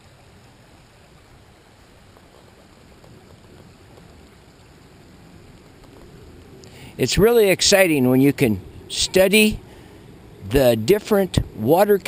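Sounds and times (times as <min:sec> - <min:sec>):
creek water flowing over stones: 0:00.0 - 0:12.0.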